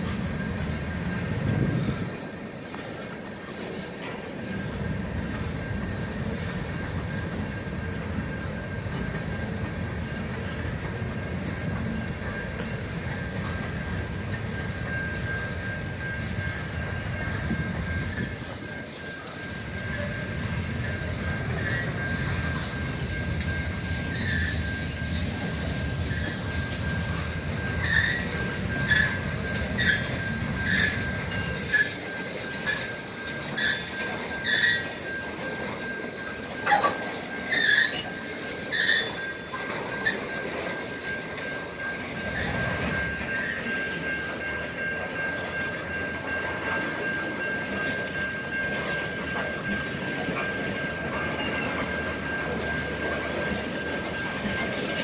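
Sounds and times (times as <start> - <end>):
train wheels rumbling on rail: 0.0 - 55.0
wheel squeal: 0.0 - 55.0.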